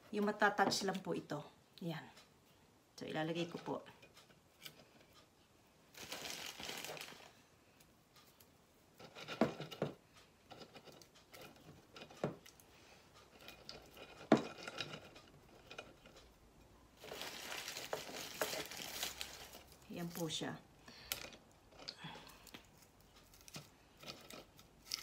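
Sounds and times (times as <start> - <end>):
rustling: 3.4 - 25.0.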